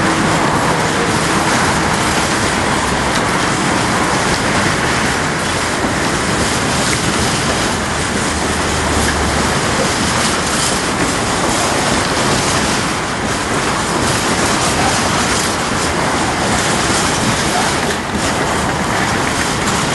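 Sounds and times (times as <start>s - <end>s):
freight train wheels on rails: 0.0s - 19.9s.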